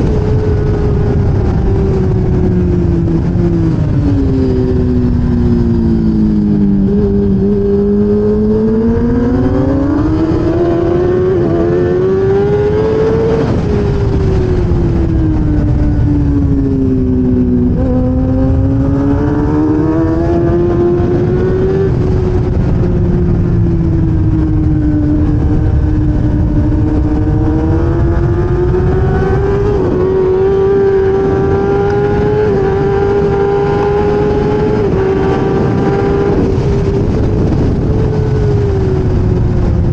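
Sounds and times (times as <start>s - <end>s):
racing motorcycle engine: 0.0s - 39.9s
rush of noise: 0.0s - 39.9s.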